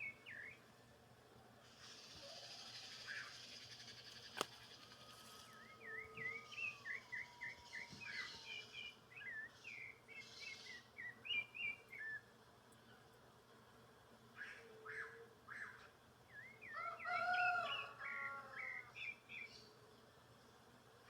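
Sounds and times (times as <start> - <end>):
songbird chirping and twittering: 0.0 - 0.7, 1.7 - 13.0, 14.4 - 19.8.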